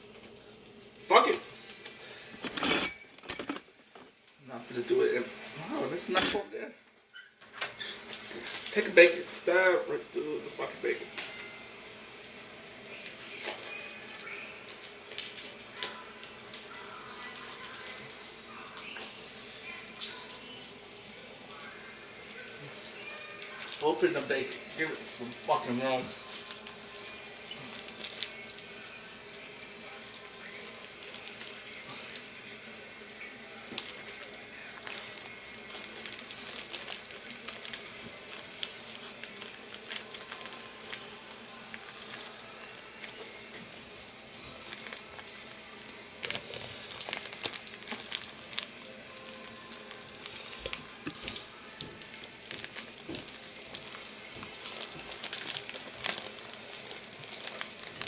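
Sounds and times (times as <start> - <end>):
bacon sizzling in a pan: 0.0 - 2.4, 4.4 - 58.0.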